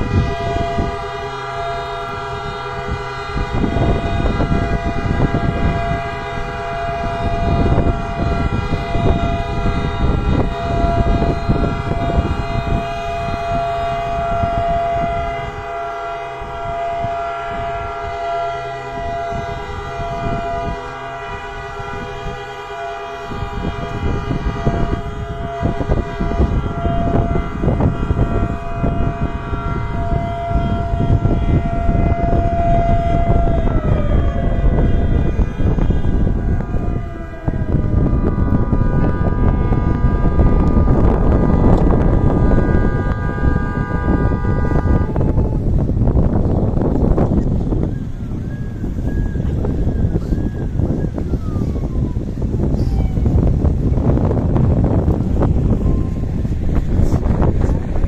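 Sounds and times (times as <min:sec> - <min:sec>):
low rumbling noise: 0:00.0 - 0:58.0
sirens and horns blaring: 0:00.0 - 0:58.0.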